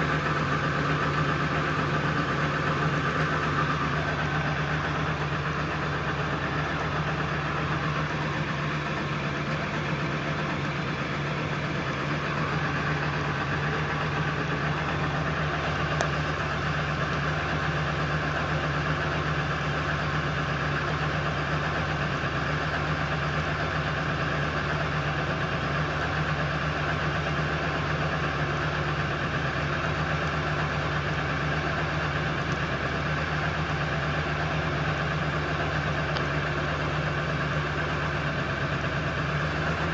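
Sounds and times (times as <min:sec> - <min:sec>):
diesel engine idling roughly: 0:00.0 - 0:39.9.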